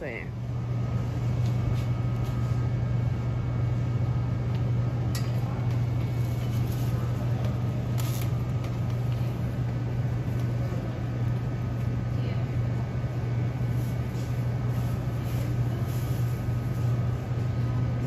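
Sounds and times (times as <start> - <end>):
refrigeration machinery hum: 0.0 - 18.0.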